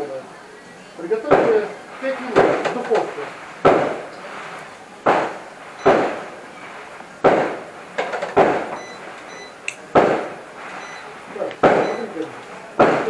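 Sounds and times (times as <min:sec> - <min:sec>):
sharp bangs: 0:01.1 - 0:13.0.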